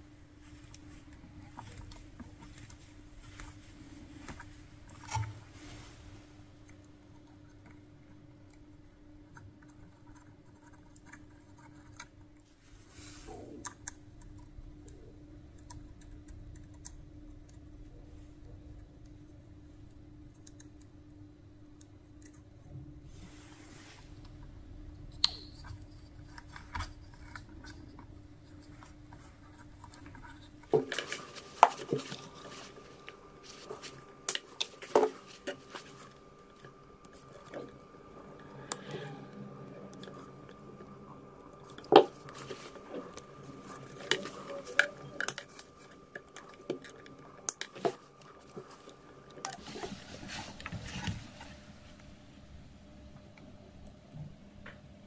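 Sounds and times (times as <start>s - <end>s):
wires rustling and scraping: 0.0s - 16.9s, 21.8s - 54.8s
faint steady hum: 0.0s - 55.0s.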